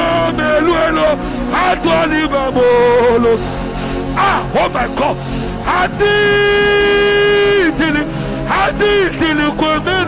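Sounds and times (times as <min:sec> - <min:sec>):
background music: 0:00.0 - 0:10.0
man chanting: 0:00.0 - 0:10.0.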